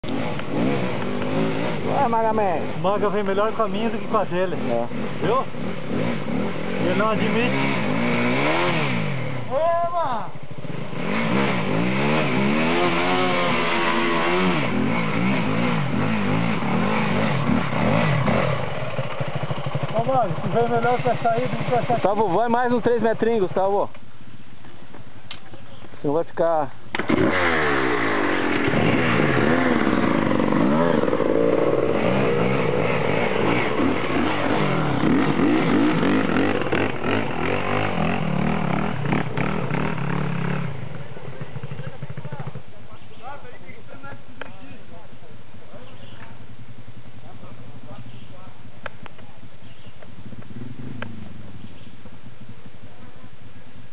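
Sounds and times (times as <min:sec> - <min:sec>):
off-road motorcycle engines revving: 0:00.0 - 0:53.9.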